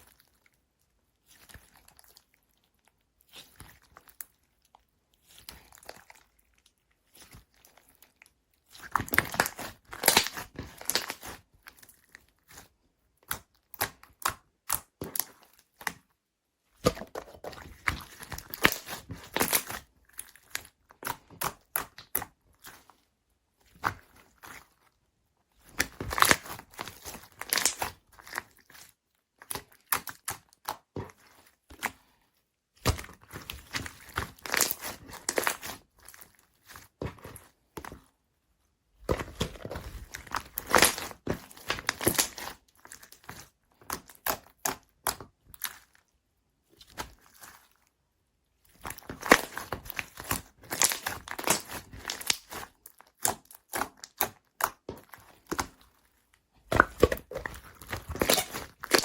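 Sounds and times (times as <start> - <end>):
slime squished by hand: 0.0 - 16.2, 16.8 - 25.0, 25.6 - 38.2, 39.0 - 48.0, 48.6 - 59.0.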